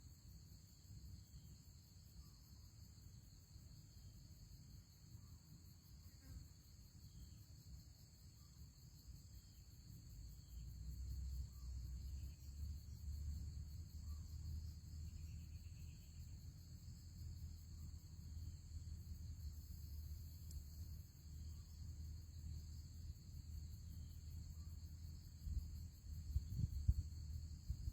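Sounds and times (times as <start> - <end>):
crickets chirring: 0.0 - 27.9.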